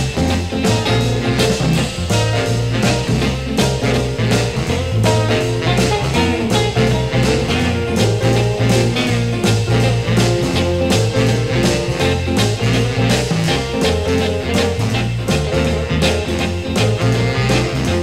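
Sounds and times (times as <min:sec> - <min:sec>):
instrumental blues band: 0:00.0 - 0:18.0.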